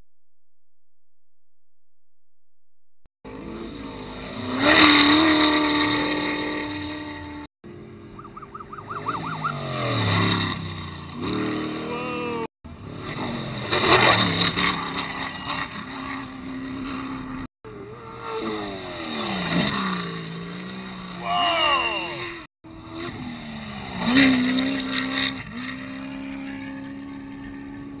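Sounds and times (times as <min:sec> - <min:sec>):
off-road truck engines revving: 0:03.3 - 0:28.0.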